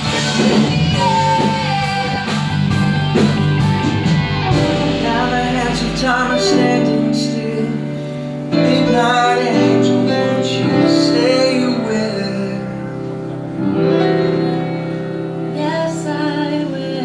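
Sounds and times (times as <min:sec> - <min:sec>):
guitar accompaniment: 0:00.0 - 0:17.0.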